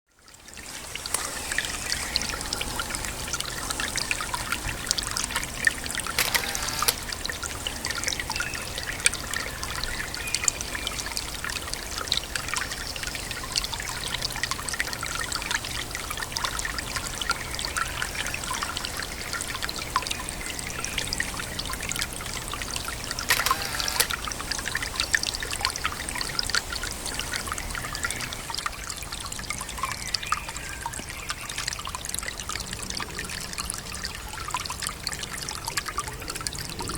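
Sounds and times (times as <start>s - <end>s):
brook trickling and splashing: 0.1s - 36.9s.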